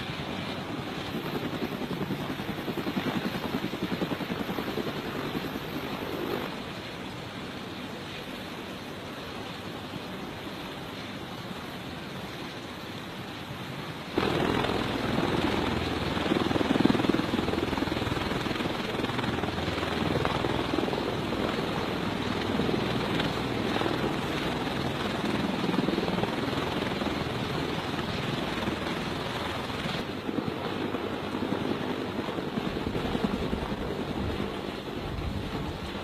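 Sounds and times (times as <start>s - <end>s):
steady rushing noise: 0.0s - 36.0s.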